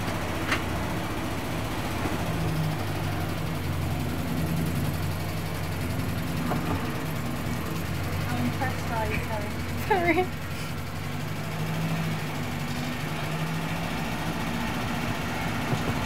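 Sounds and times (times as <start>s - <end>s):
diesel engine running at low revs: 0.0s - 16.0s.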